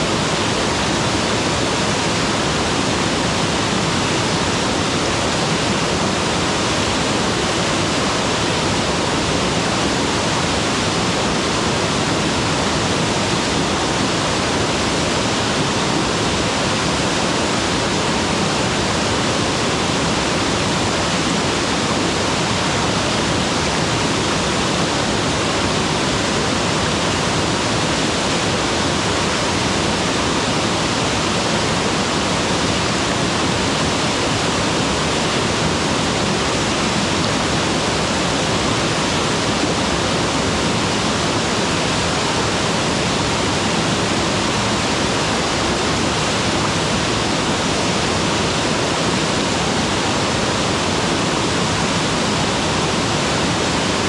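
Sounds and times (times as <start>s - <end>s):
waterfall pouring and splashing: 0.0s - 54.0s.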